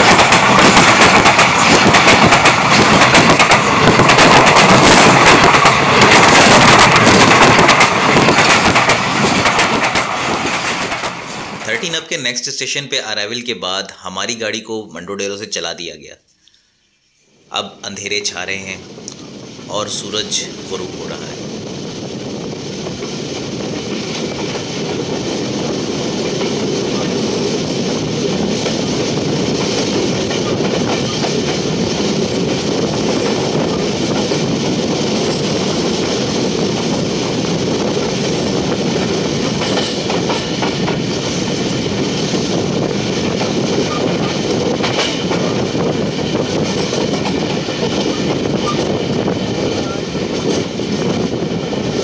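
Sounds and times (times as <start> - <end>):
train wheels rumbling on rail: 0.0 - 12.2, 18.0 - 52.0.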